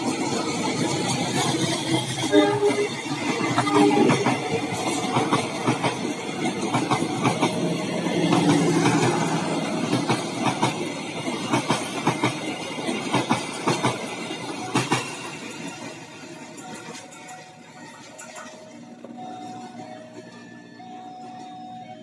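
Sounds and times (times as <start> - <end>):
train wheels clicking over rail joints: 0.0 - 19.2.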